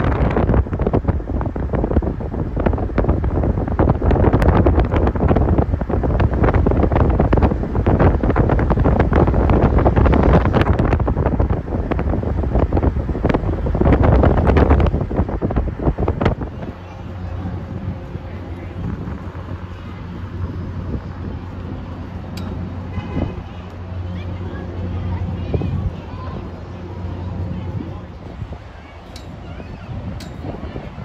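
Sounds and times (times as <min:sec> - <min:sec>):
road rumble: 0:00.0 - 0:31.0
wind buffeting microphone: 0:00.0 - 0:31.0
wind gust crackles: 0:00.0 - 0:31.0.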